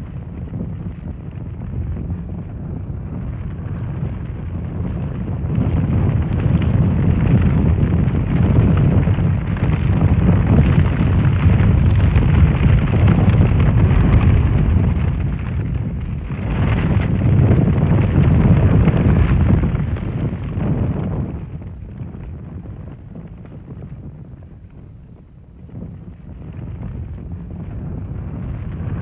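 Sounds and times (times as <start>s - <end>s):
wood fire roaring in kiln: 0.0s - 29.0s.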